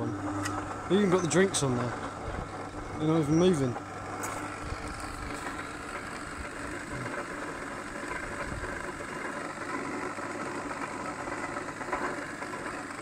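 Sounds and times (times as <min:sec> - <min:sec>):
belt sander motor humming: 0:00.0 - 0:13.0.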